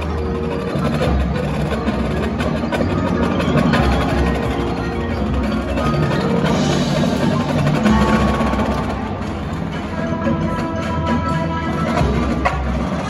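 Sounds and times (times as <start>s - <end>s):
marching band playing: 0.0s - 13.0s
marimbas and bells: 0.0s - 13.0s.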